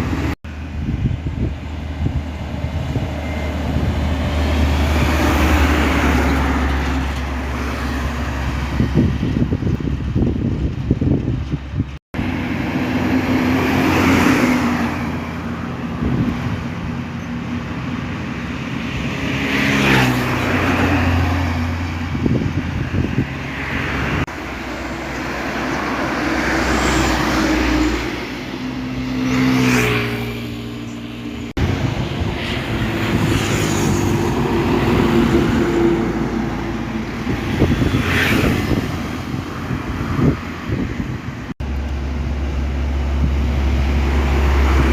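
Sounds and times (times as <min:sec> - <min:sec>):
diesel trucks driving past: 0:00.0 - 0:44.9.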